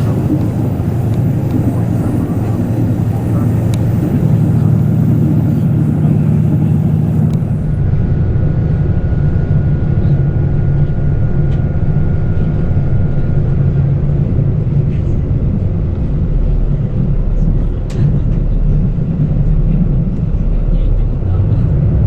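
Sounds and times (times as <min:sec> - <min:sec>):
thin steady whine: 0:00.0 - 0:21.7
diesel engine drone: 0:00.0 - 0:22.0
rail running noise: 0:00.0 - 0:22.0.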